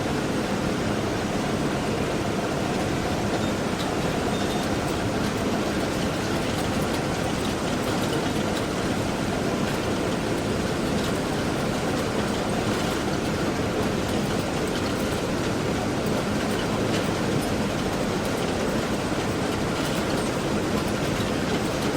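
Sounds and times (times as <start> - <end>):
sorting machine rattle and whir: 0.0 - 21.9.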